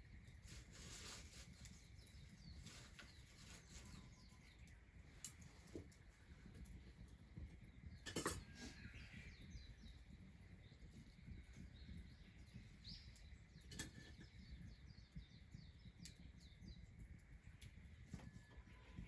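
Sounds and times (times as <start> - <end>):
faint bird chirps: 0.8 - 19.0.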